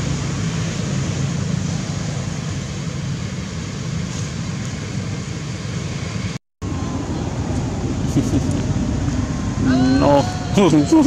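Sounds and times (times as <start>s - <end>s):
low rumble with hiss: 0.0s - 11.0s.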